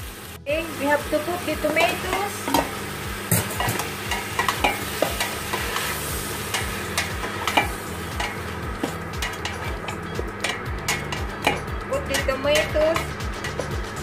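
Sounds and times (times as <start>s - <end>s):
food sizzling in a pot: 0.0s - 14.0s
spatula scraping and knocking pot: 1.7s - 13.8s.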